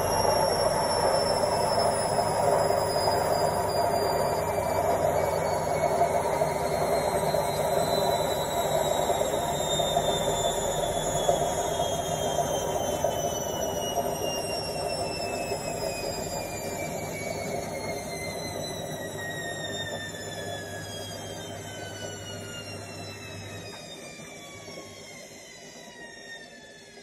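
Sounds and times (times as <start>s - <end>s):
high motor whine: 0.0s - 27.0s
washing machine drum spinning: 0.0s - 27.0s.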